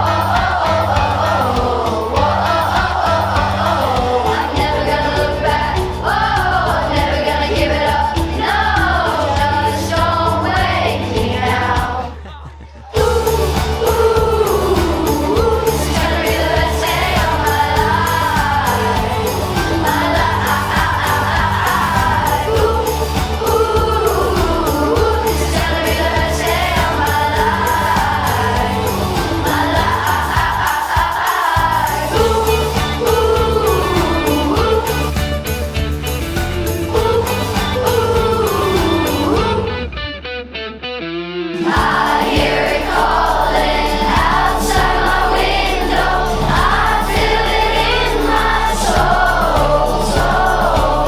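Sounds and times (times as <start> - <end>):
singing over backing track: 0.0 - 40.2, 41.5 - 51.0.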